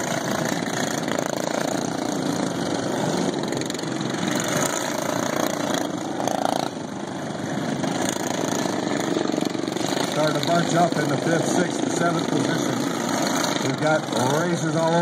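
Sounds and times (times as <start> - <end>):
lawn mower engines droning: 0.0 - 15.0.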